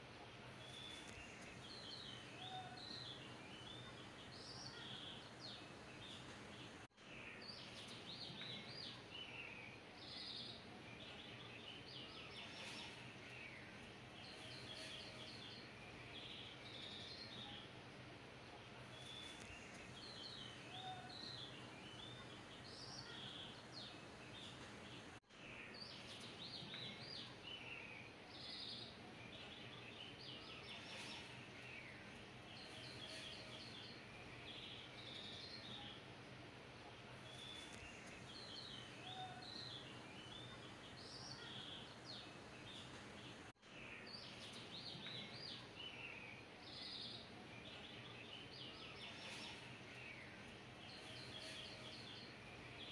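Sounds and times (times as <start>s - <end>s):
bird chirps and tweets: 0.5s - 17.8s, 18.8s - 36.1s, 37.1s - 52.9s.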